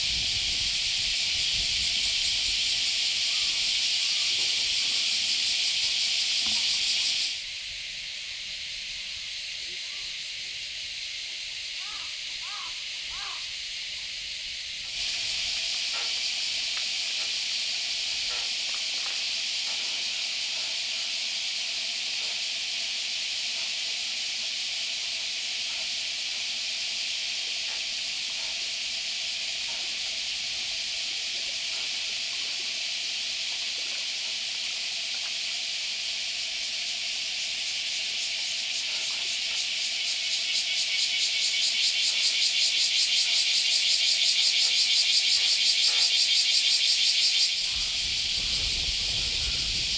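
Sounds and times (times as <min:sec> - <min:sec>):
cicadas buzzing: 0:00.0 - 0:49.9.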